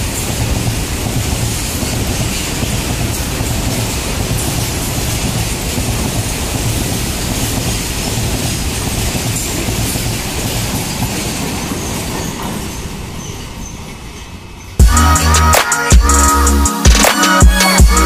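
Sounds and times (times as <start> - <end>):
train wheels clattering over rails: 0.0 - 14.8.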